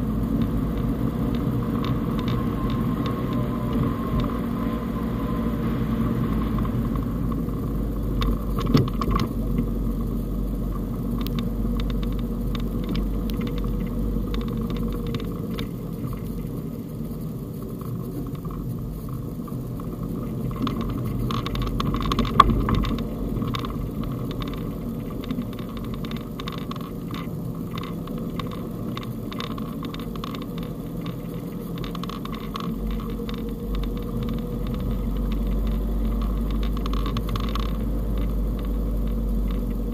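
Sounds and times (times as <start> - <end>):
car engine hum: 0.0 - 39.9
scattered clicks: 0.2 - 4.4, 6.5 - 39.9.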